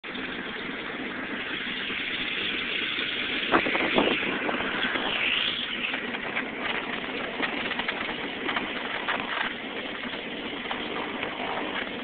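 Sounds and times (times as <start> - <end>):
aircraft engines in cabin: 0.0 - 12.0.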